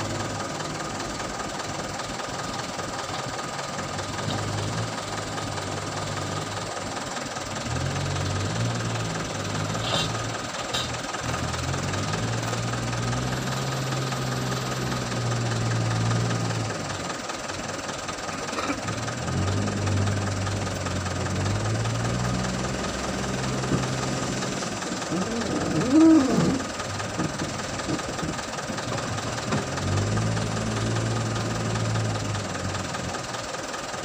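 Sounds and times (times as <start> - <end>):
diesel engines revving: 0.0 - 34.0.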